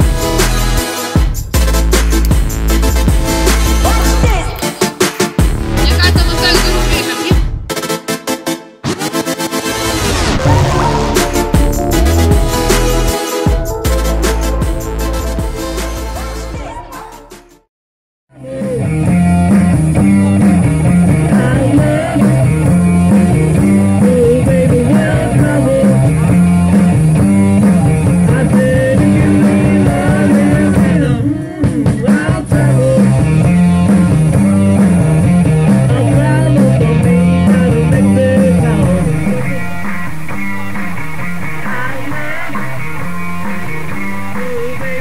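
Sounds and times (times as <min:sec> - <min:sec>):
rock music: 0:00.0 - 0:17.4, 0:18.4 - 0:45.0.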